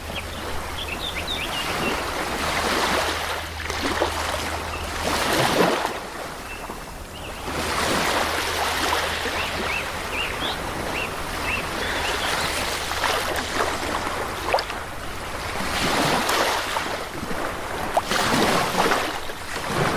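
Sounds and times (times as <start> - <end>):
waves washing onto beach: 0.0 - 19.9.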